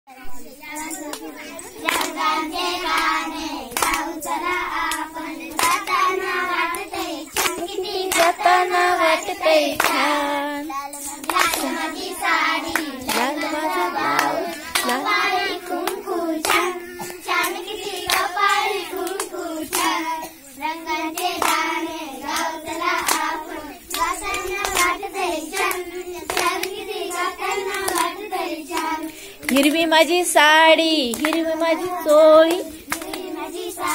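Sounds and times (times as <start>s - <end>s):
girls singing in unison: 0.3s - 33.9s
hands clapping in rhythm: 0.6s - 33.9s.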